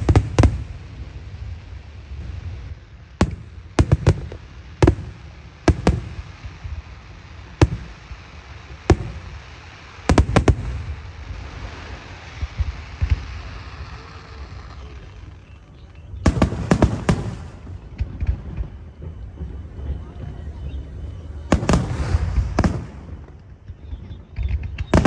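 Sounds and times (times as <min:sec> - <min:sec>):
continuous low rumble: 0:00.0 - 0:25.0
fireworks bangs: 0:00.0 - 0:25.0.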